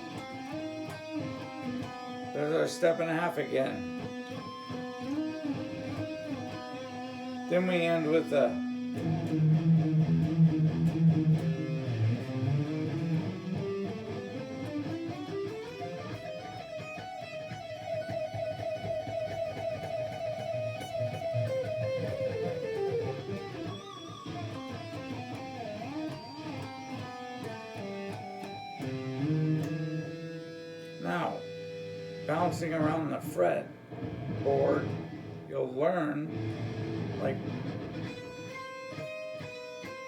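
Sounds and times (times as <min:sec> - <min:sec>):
guitar notes playing a scale: 0:00.0 - 0:40.0.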